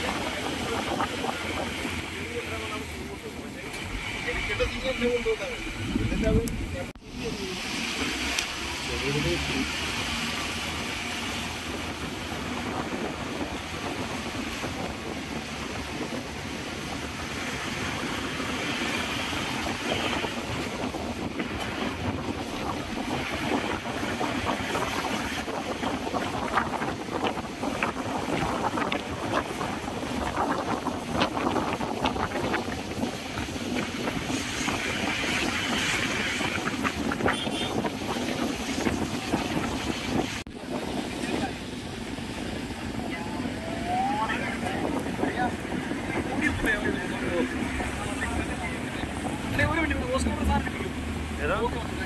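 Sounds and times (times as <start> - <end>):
bus engine and tyre rumble: 0.0 - 52.0
wind rushing past window: 0.0 - 52.0.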